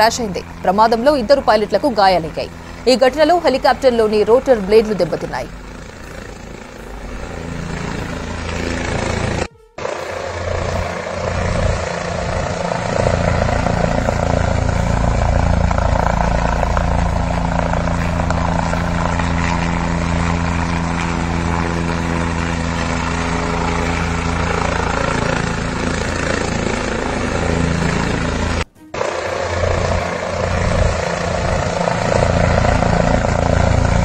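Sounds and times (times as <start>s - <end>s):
helicopter rotor and engine: 0.0s - 34.0s.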